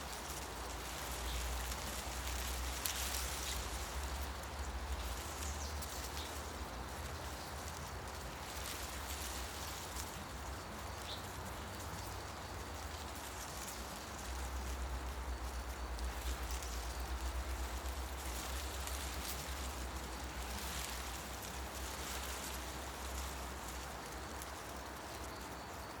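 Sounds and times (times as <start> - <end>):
leaves rustling in wind: 0.0 - 26.0.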